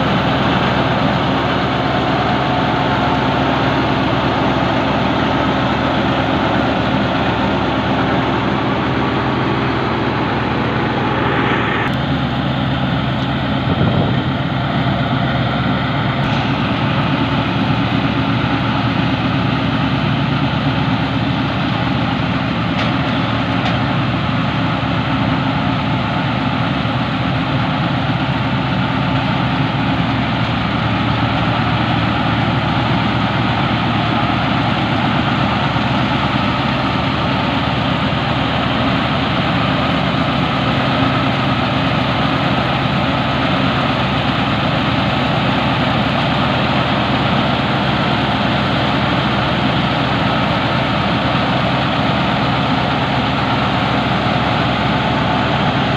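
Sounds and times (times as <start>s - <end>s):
tractor engine running under load: 0.0s - 55.9s.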